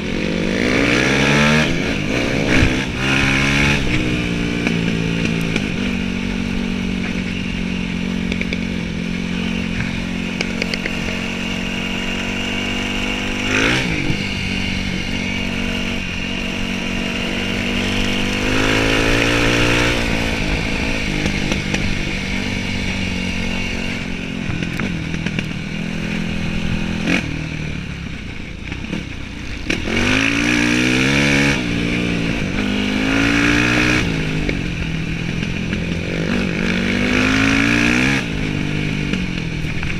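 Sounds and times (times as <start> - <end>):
dirt bike engine revving: 0.0 - 28.0, 28.8 - 39.9.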